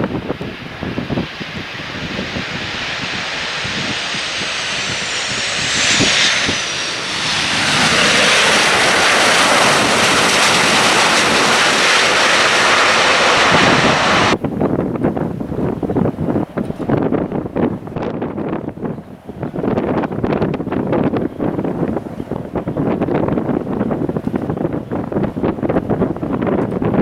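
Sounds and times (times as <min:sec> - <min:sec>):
airliner engines roaring: 0:00.0 - 0:27.0
wind buffeting microphone: 0:00.0 - 0:27.0.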